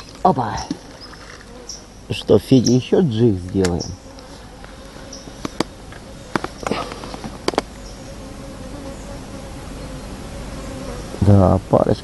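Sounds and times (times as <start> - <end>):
insect buzzing: 0.0 - 11.6.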